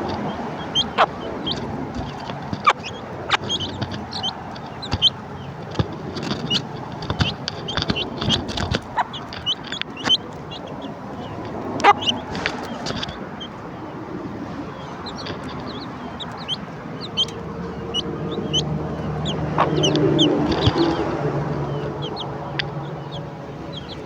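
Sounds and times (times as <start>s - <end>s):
sharp clicks: 0.0s - 13.6s, 14.4s - 24.0s
chicks peeping: 0.0s - 24.0s
hen clucking: 0.0s - 24.0s.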